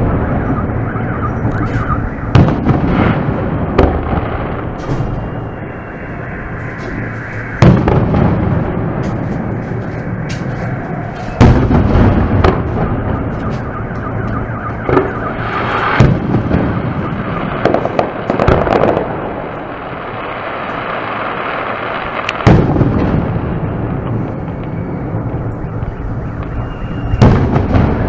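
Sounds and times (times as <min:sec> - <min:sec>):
fireworks booming: 0:00.0 - 0:28.0
fireworks pops and crackling: 0:00.0 - 0:28.0
rumbling echo: 0:00.0 - 0:28.0.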